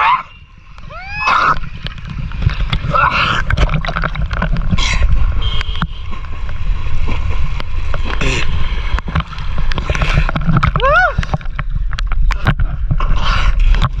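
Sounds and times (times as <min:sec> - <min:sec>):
water sloshing and splashing: 0:00.6 - 0:14.0.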